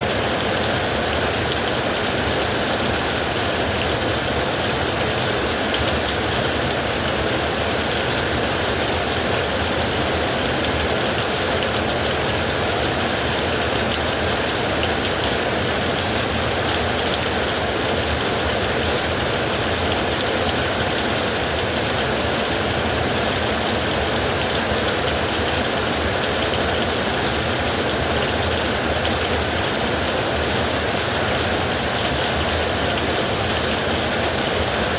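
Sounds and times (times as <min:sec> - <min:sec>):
heavy rain on a roof: 0:00.0 - 0:34.9.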